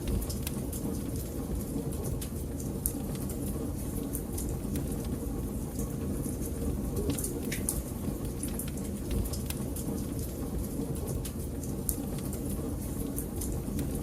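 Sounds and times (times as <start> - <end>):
wood crackling and popping: 0.0 - 3.2, 4.1 - 14.0
fire flames rumbling: 0.0 - 14.0.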